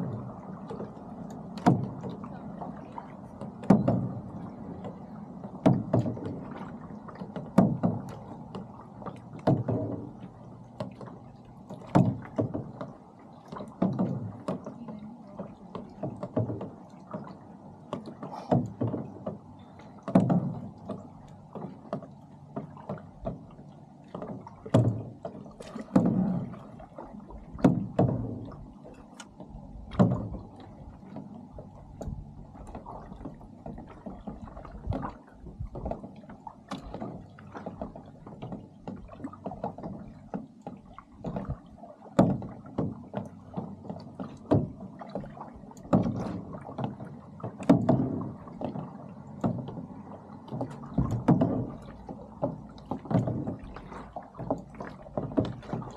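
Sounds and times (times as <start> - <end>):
steady water wash: 0.0 - 55.9
water slapping against boat: 0.0 - 55.9.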